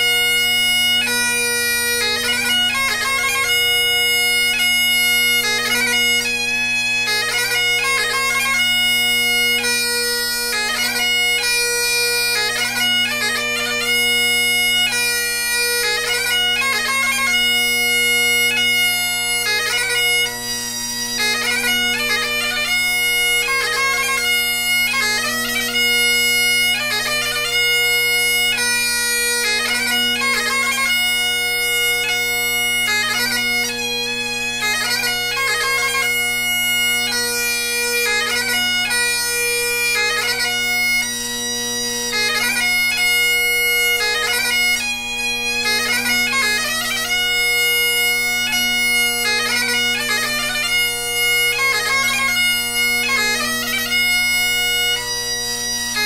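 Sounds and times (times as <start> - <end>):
bagpipe chanter melody: 0.0 - 56.0
bagpipe drones: 0.0 - 56.0.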